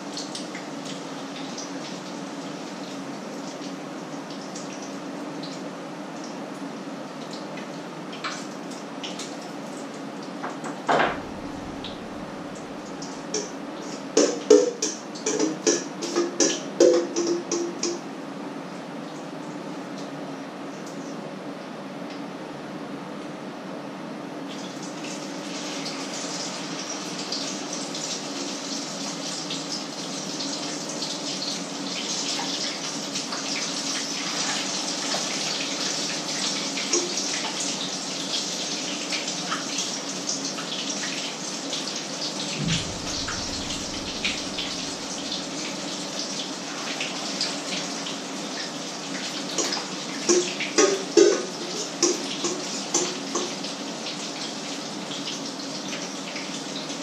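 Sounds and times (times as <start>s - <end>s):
batter frying in hot oil: 0.0s - 21.7s, 23.6s - 57.0s.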